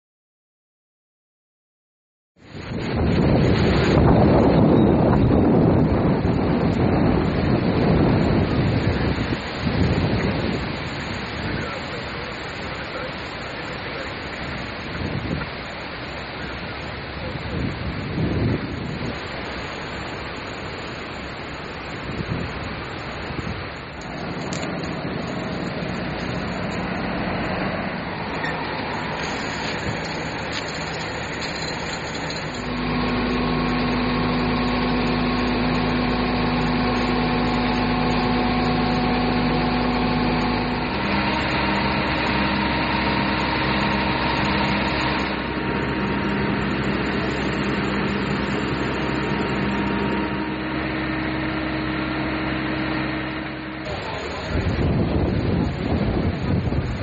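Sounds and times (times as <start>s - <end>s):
constant hum: 2.4s - 57.0s
steady rushing noise: 2.4s - 57.0s
vehicle engines idling: 2.6s - 57.0s.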